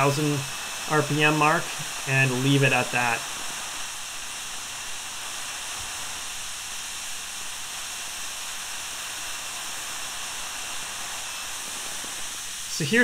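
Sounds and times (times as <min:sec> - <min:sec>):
model jet turbine running: 0:00.0 - 0:13.0.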